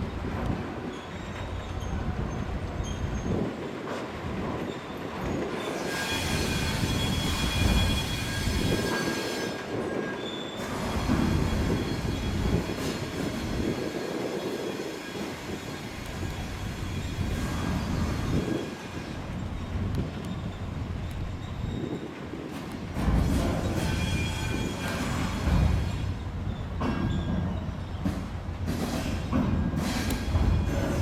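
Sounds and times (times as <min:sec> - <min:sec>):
train wheels rumbling on track: 0:00.0 - 0:31.0
high wheel squeal: 0:00.8 - 0:03.5, 0:04.6 - 0:22.5, 0:23.2 - 0:28.2, 0:29.0 - 0:31.0.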